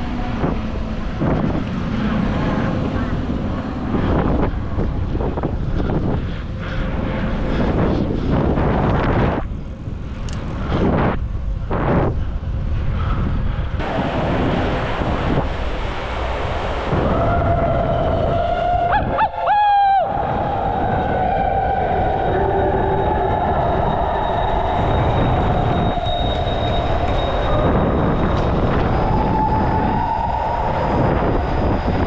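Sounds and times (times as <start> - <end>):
high steady whine: 0.0 - 32.0
wind buffeting microphone: 0.0 - 32.0.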